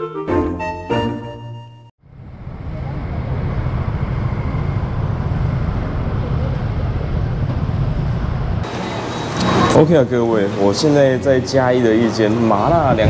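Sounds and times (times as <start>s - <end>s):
scooters and cars rumbling: 2.0s - 13.0s.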